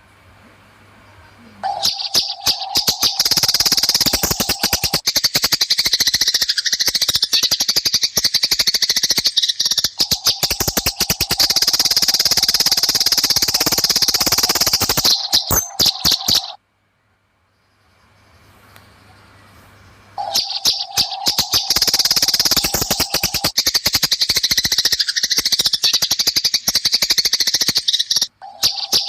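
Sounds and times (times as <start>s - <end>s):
sparrows chattering chirps: 1.1s - 16.6s, 17.6s - 29.0s.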